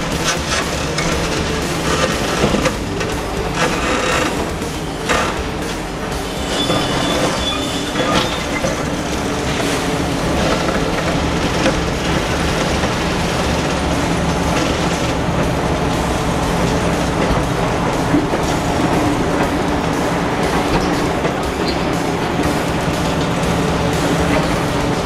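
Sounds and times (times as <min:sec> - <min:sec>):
hydraulic crusher biting concrete: 0:00.0 - 0:21.8
diesel engine running under load: 0:00.0 - 0:25.0.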